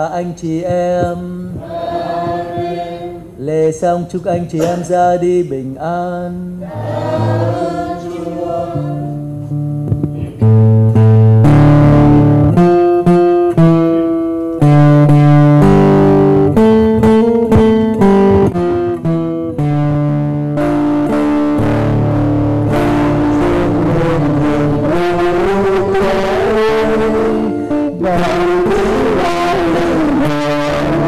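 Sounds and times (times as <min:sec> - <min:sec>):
slow instrumental music: 0:00.7 - 0:03.4, 0:06.6 - 0:31.0.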